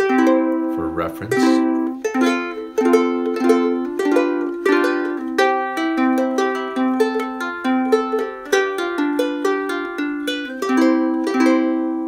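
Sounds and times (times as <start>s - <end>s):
ukulele chords plucked: 0.0s - 12.0s.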